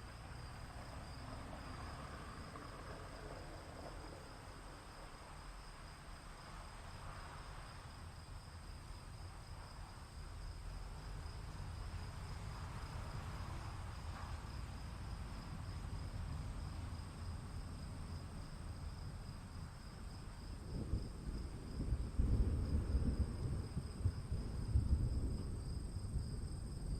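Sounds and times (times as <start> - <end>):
crickets chirping: 0.0 - 26.9
low rumble of thunder: 0.0 - 26.9.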